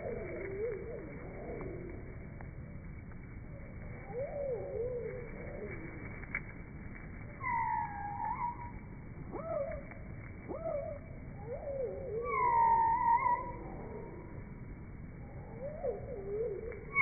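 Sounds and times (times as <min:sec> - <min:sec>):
slowed-down bird calls: 0:00.0 - 0:17.0.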